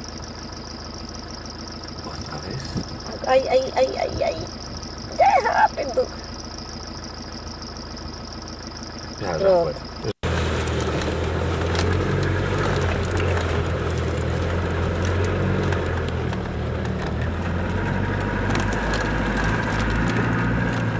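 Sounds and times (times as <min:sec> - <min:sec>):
car engine drone: 0:00.0 - 0:20.9
road noise: 0:00.0 - 0:20.9.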